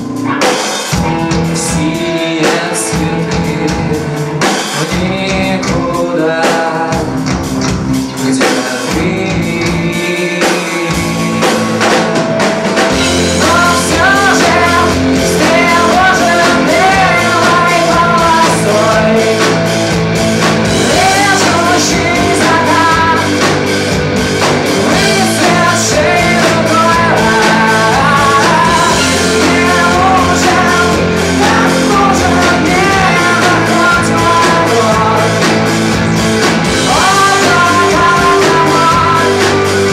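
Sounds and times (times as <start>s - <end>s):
bass: 0.0s - 39.9s
drum kit: 0.0s - 39.9s
electric guitar: 0.0s - 39.9s
man singing: 0.0s - 39.9s.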